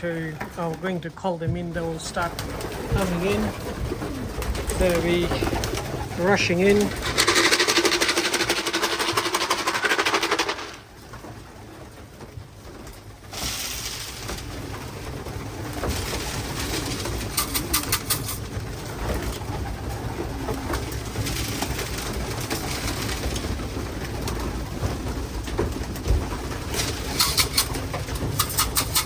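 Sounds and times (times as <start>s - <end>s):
pigeons cooing: 1.7s - 12.3s, 13.7s - 29.0s
sharp clatters: 2.1s - 11.3s, 12.8s - 19.4s, 20.6s - 29.0s.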